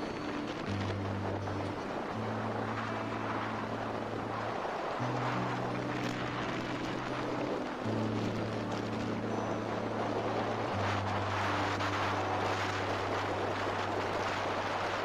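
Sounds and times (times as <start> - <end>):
low background music: 0.0 - 15.0
motorcycle road noise: 0.0 - 15.0
rushing wind: 0.0 - 15.0.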